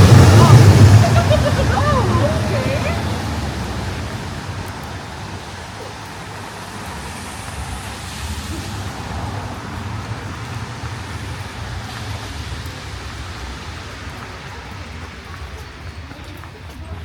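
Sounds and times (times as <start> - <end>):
low engine rumble: 0.0 - 17.0
tyres hissing on wet road: 0.0 - 17.0.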